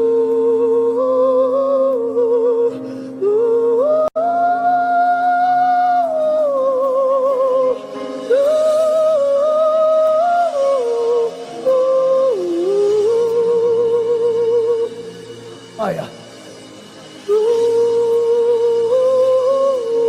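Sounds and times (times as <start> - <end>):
slow sung melody with vibrato: 0.0 - 20.0.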